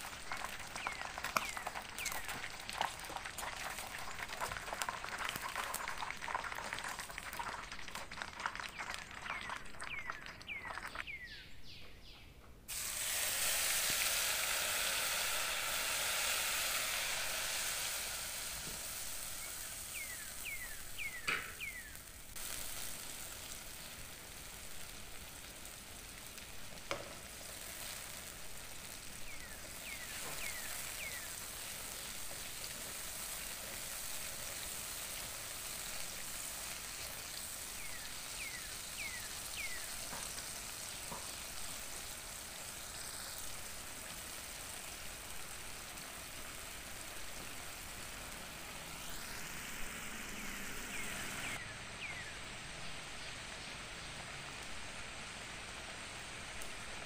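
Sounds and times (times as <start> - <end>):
paste sizzling in hot oil: 0.0 - 11.1, 12.7 - 52.3.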